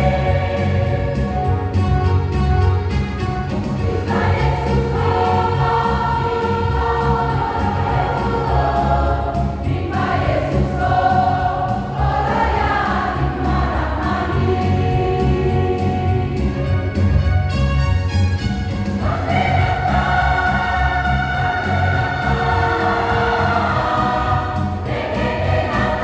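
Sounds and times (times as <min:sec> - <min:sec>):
choir singing: 0:00.0 - 0:02.4, 0:03.6 - 0:17.2, 0:19.0 - 0:26.0
instrumental accompaniment: 0:00.0 - 0:26.0
steady low bass: 0:00.0 - 0:26.0.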